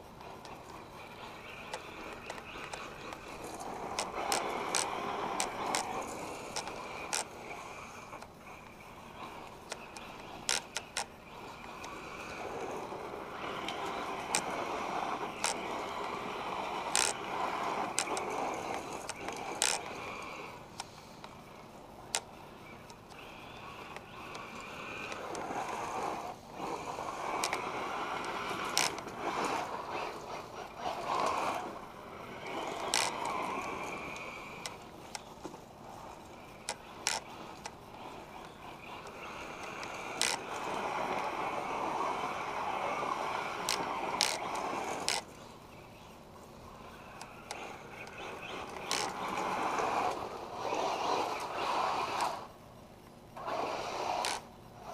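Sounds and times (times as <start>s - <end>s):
electric motor whine: 0.0s - 46.1s, 53.4s - 54.9s
sharp clicks and ticks: 0.0s - 46.2s.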